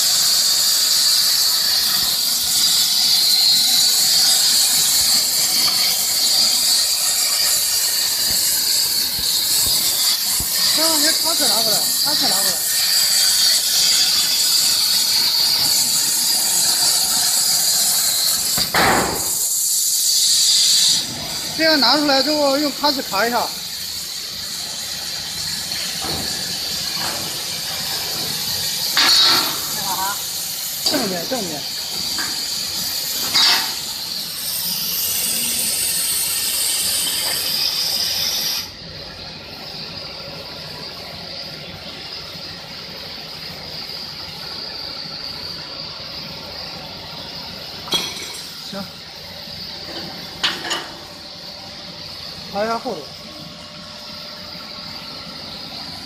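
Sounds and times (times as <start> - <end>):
plasma cutter hissing: 0.0 - 56.0.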